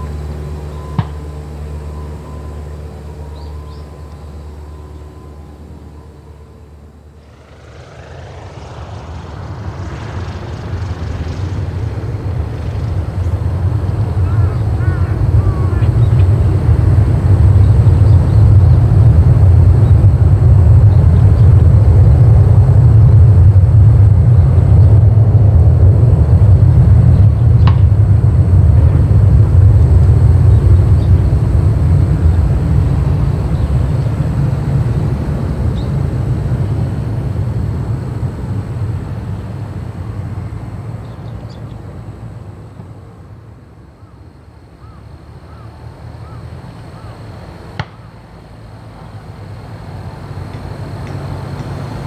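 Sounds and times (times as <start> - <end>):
aircraft engine: 0.0 - 52.0.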